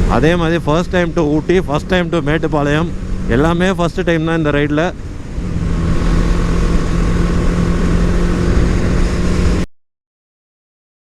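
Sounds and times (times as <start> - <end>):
rushing wind: 0.0 - 9.6
motorcycle engine cruising: 0.0 - 9.7.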